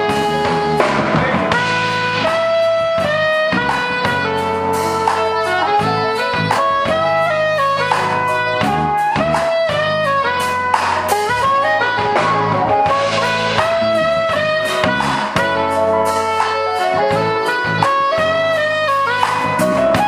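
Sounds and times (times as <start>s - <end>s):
guitar backing: 0.0s - 20.0s
soprano saxophone melody: 0.0s - 20.0s.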